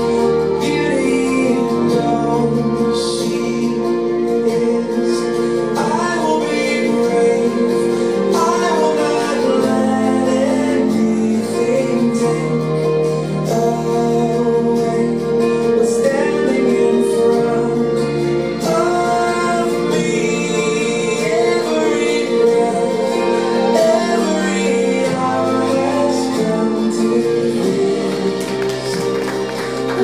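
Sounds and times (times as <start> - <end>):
instrumental accompaniment: 0.0 - 30.0.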